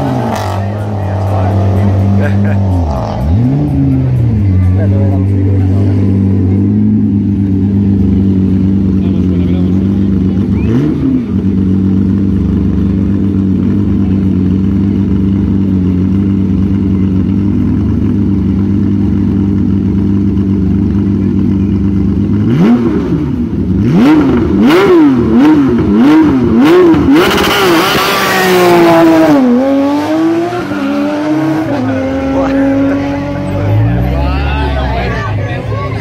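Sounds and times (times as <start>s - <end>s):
race car engine idling and revving: 0.0s - 36.0s.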